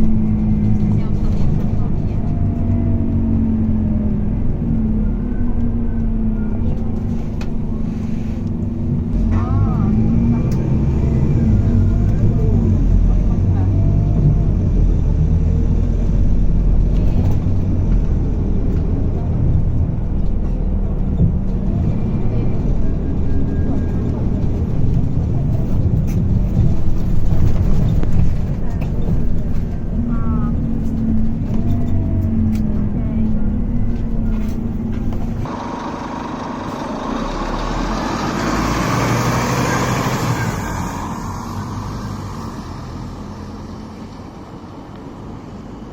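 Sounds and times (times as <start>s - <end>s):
bus engine rumble: 0.0s - 45.9s.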